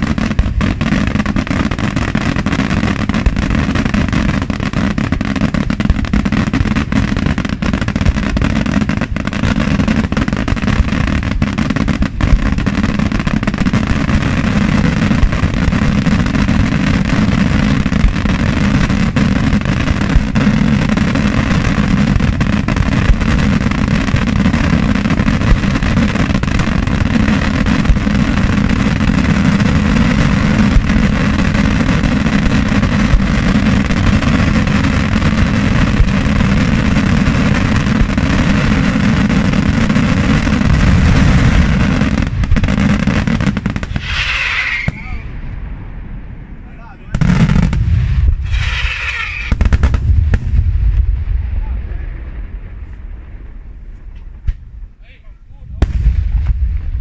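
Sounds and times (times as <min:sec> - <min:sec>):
fireworks bursts and crackling: 0:00.0 - 0:57.0
loud fireworks bangs: 0:00.0 - 0:57.0.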